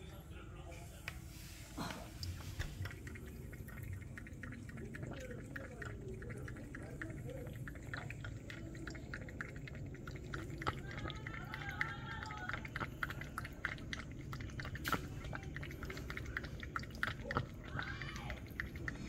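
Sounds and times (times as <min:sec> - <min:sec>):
cat lapping: 0:00.9 - 0:19.0.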